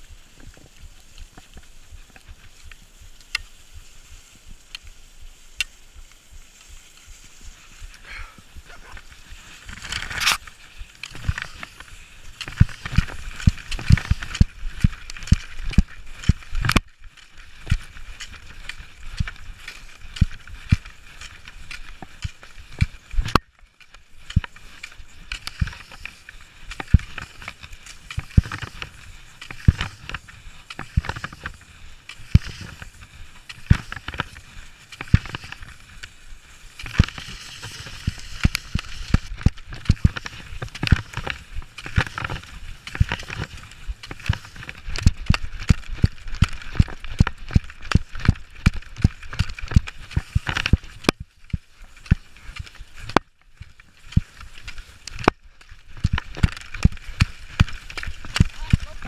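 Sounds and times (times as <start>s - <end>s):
skis hissing over snow: 0.0s - 59.0s
ski poles knocking: 0.2s - 59.0s.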